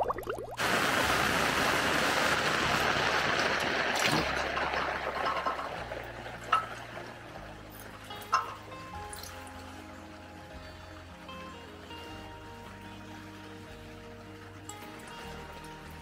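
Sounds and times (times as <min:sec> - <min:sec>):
heavy rain falling: 0:00.6 - 0:16.0.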